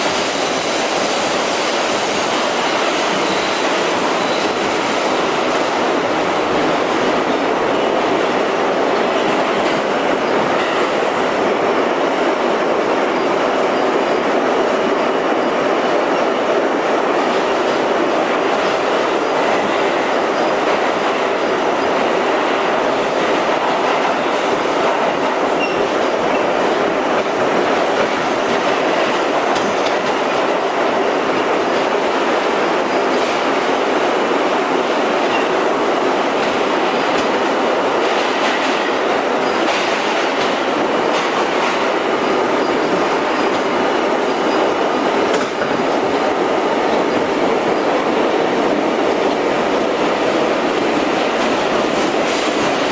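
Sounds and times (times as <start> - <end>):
subway car wheels rumbling on rail: 0.0 - 52.9.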